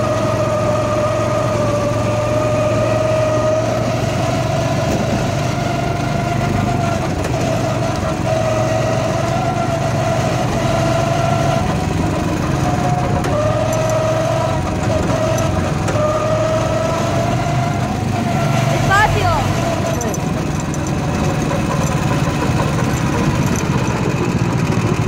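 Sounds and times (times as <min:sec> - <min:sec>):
go-kart engine whine: 0:00.0 - 0:25.0.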